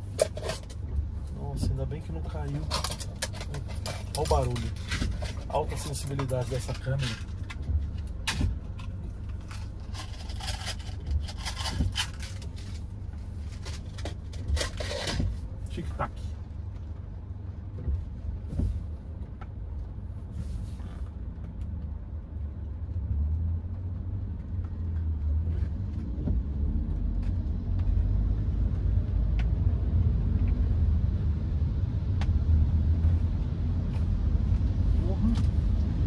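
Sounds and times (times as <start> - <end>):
car engine and road rumble: 0.0 - 36.0.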